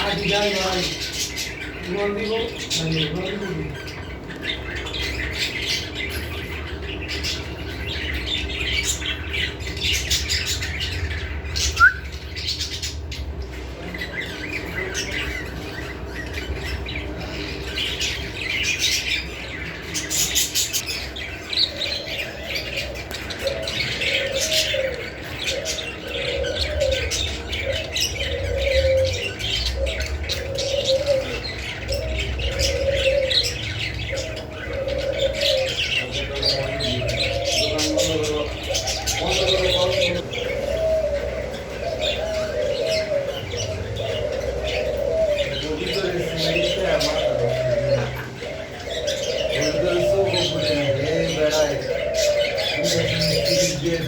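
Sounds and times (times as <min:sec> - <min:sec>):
birds chirping: 0:00.0 - 0:54.0
pigeon cooing: 0:00.0 - 0:54.0.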